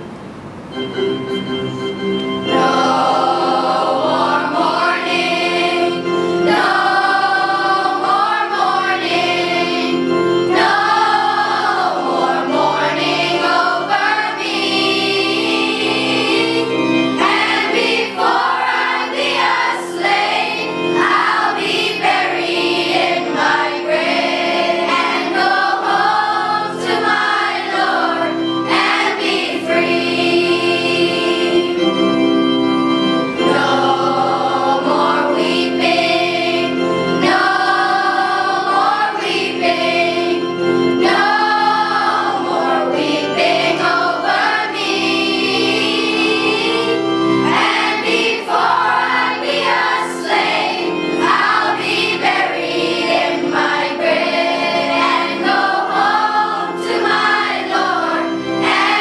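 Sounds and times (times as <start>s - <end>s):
organ chords: 0.0s - 59.0s
choir singing gospel song: 2.4s - 59.0s.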